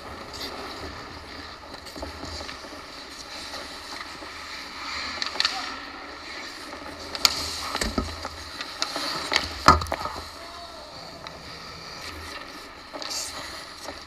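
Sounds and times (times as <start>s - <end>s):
skates scraping on ice: 0.0s - 14.0s
stick and puck clacks: 0.1s - 10.4s, 12.0s - 14.0s.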